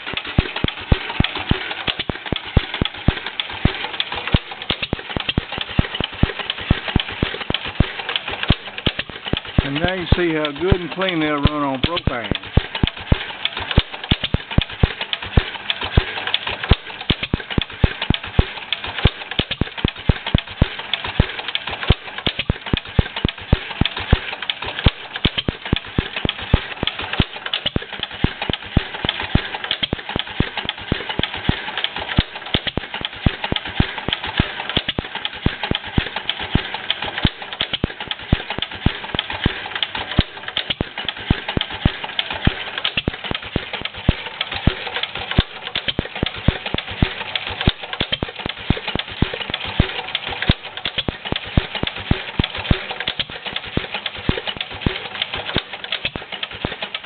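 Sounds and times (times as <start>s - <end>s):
stationary engine clattering slowly: 0.0s - 57.0s.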